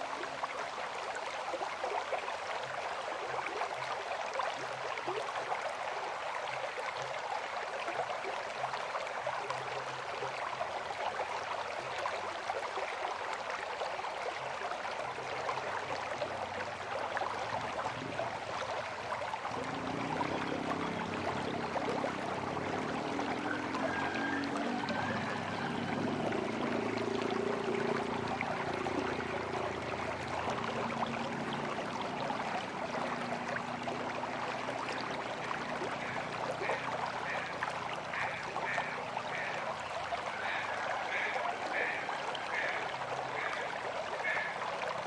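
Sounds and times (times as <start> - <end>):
river water splashing over rocks: 0.0 - 45.0.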